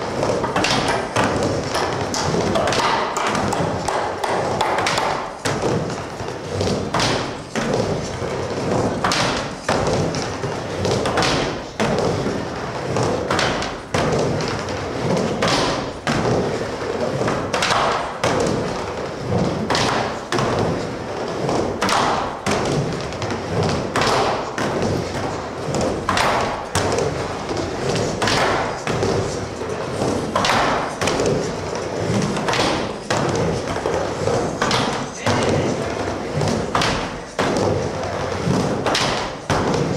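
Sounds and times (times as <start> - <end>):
skateboard thudding on wooden ramp: 0.0 - 39.9
skateboard wheels rumbling: 0.0 - 39.9.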